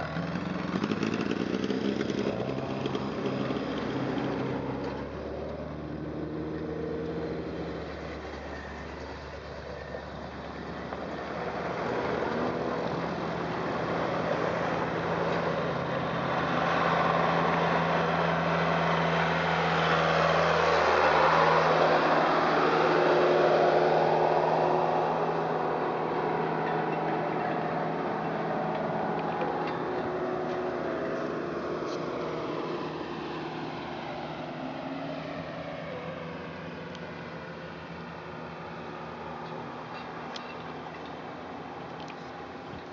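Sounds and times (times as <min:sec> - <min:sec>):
vehicle engines passing: 0:00.0 - 0:42.9.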